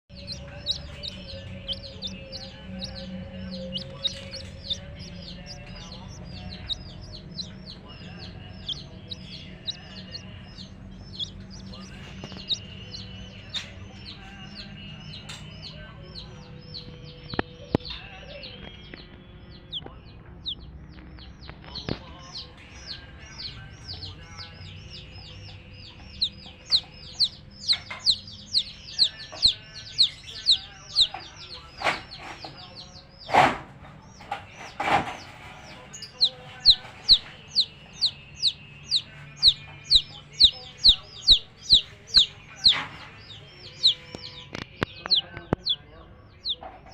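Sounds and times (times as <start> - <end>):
baby chicks peeping: 0.0 - 46.9
hen clucking: 0.1 - 15.8, 21.5 - 33.5, 34.2 - 46.9.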